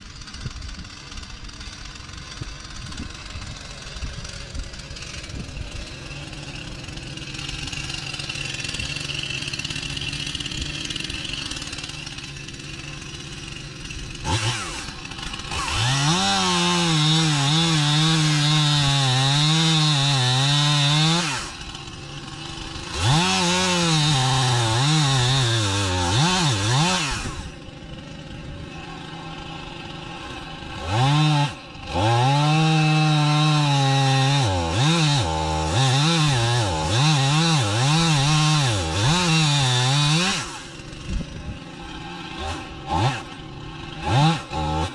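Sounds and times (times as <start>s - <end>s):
chainsaw cutting wood: 0.0s - 44.9s
chainsaw idling: 0.0s - 44.9s.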